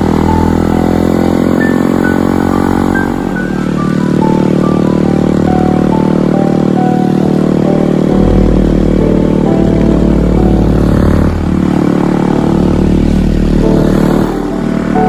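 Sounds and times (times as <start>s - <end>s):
background music with held notes: 0.0s - 15.0s.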